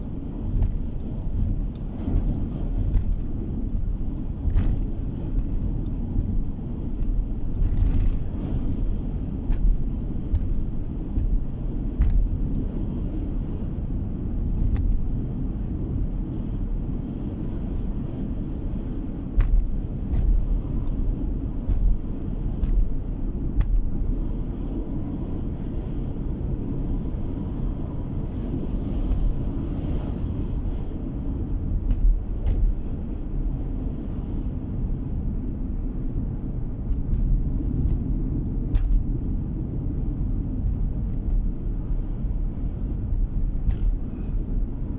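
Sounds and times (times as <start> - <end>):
road and engine rumble: 0.0 - 44.9.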